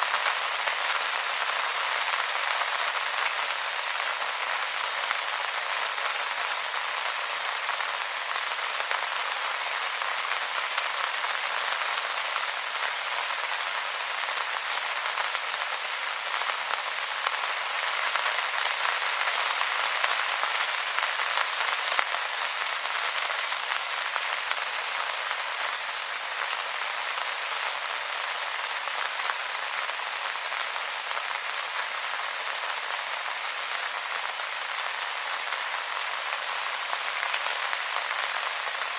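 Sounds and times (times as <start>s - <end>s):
rain falling on wet leaves: 0.0s - 38.9s.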